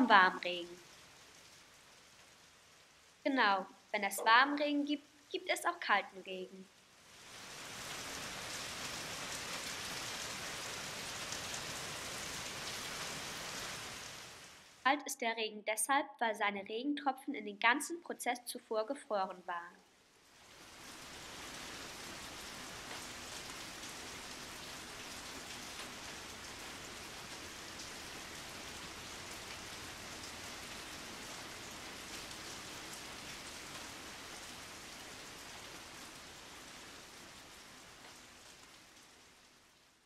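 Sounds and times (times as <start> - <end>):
steady rain hiss: 0.0 - 15.4, 17.4 - 40.0.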